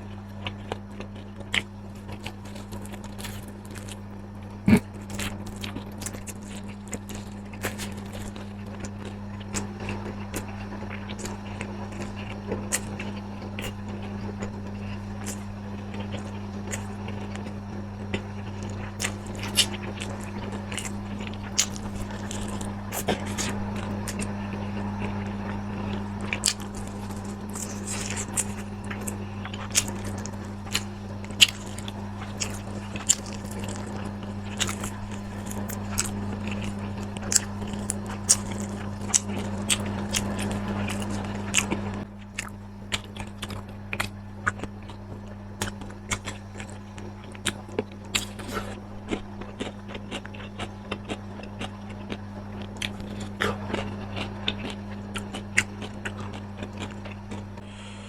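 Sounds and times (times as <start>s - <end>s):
crunching and chewing: 0.0s - 58.0s
low hum: 0.0s - 58.0s.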